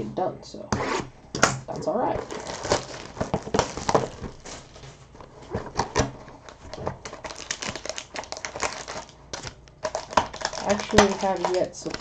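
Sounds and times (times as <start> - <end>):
foil packs rustling and crinkling: 2.0 - 12.0.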